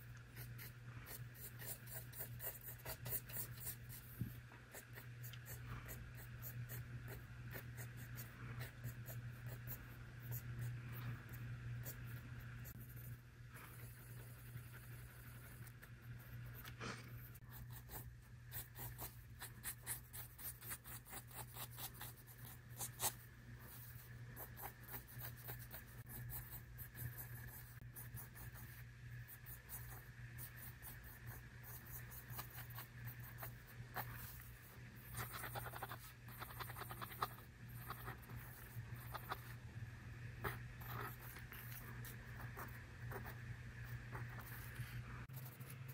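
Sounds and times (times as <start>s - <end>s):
pencil scratching on paper: 0.0s - 39.6s, 40.4s - 45.9s
steady low hum: 0.0s - 45.9s.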